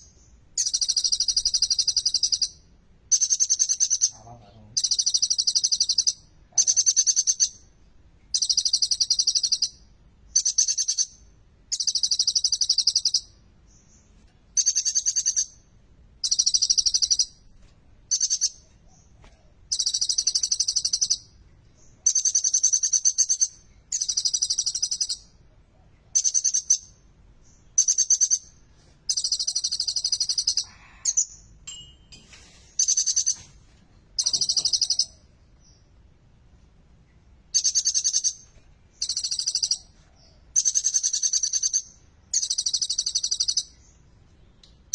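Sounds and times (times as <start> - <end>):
sunbird singing: 0.0 - 7.7, 8.3 - 15.6, 16.2 - 17.4, 18.1 - 25.4, 26.1 - 33.4, 34.2 - 35.9, 37.5 - 44.1.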